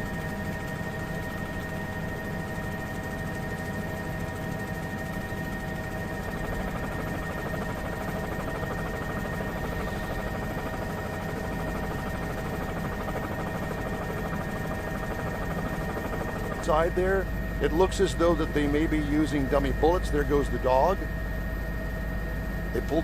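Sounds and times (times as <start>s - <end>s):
helicopter engine and rotor drone: 0.0s - 23.0s.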